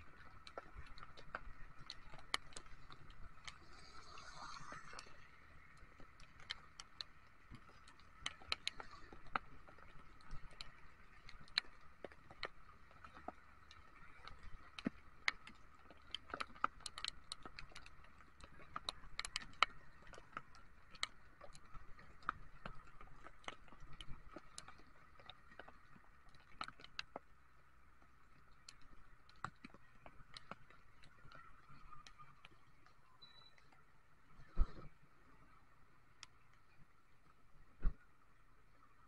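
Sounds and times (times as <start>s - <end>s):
raindrops tapping on camera: 0.0s - 39.0s.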